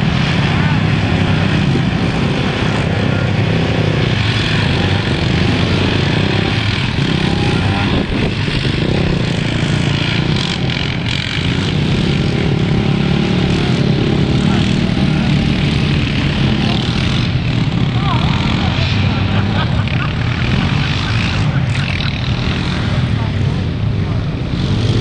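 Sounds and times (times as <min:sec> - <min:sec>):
quad bike engines running: 0:00.0 - 0:25.0.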